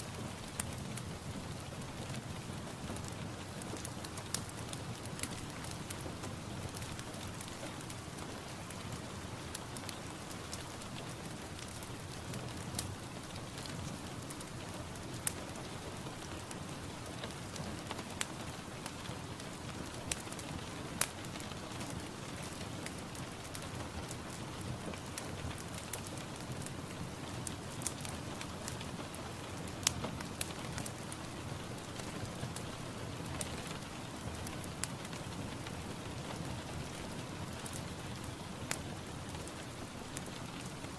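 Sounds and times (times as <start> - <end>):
rain hissing on a surface: 0.0 - 40.9.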